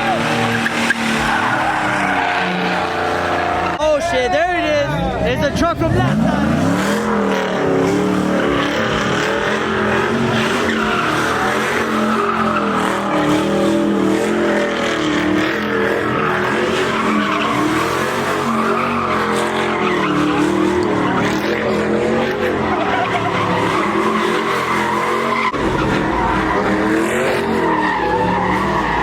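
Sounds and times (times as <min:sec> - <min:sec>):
tyres squealing: 0:00.0 - 0:05.2, 0:06.0 - 0:29.0
truck engine at high revs: 0:00.0 - 0:29.0.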